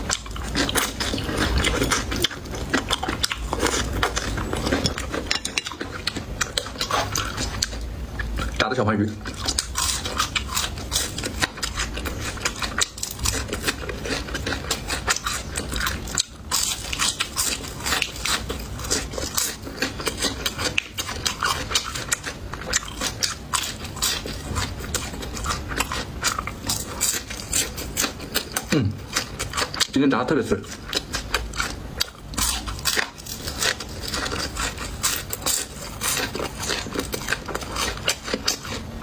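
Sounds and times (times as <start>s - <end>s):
crunching crispy fried fish: 0.0s - 8.5s, 9.2s - 39.0s.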